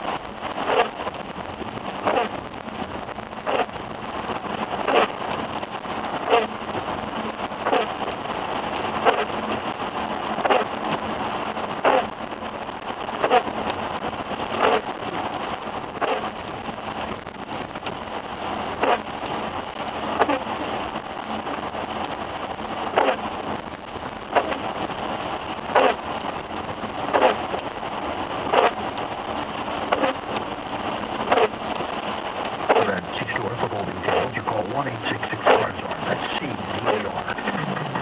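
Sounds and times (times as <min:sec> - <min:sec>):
road noise: 0:00.0 - 0:38.0
steady rain: 0:00.0 - 0:38.0.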